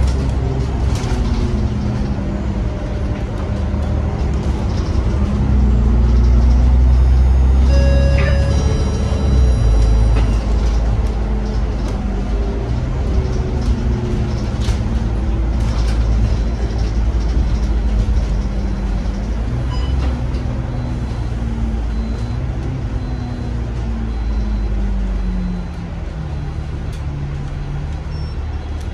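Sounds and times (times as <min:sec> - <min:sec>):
bus diesel engine drone: 0:00.0 - 0:28.9.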